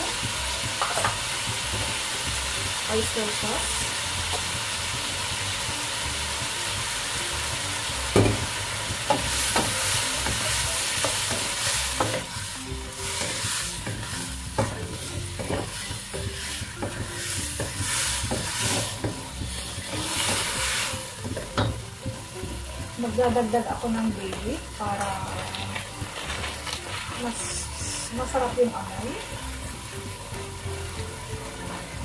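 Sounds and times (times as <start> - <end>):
meat sizzling in a pan: 0.0 - 32.0.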